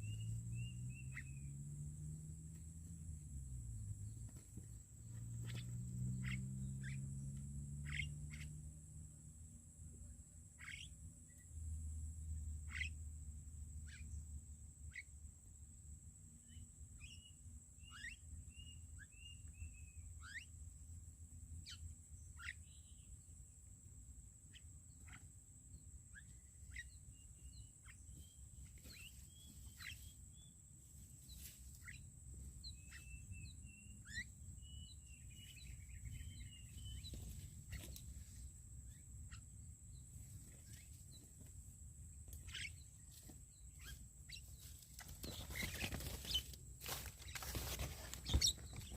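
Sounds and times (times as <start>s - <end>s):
faint bird chirps: 0.0s - 8.8s, 10.0s - 15.2s, 16.4s - 20.9s, 21.5s - 23.3s, 24.4s - 48.9s.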